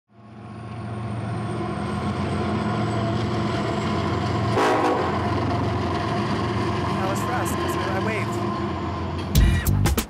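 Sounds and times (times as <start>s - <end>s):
engine-like drone: 0.1s - 9.6s.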